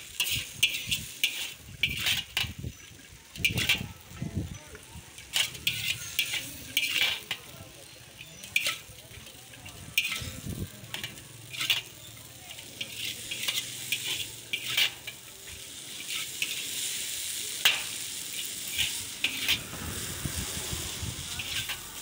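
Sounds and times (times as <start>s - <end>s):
metal spatula scraping a wok: 0.0s - 4.2s, 4.8s - 22.0s
noodles sizzling in a wok: 0.0s - 22.0s.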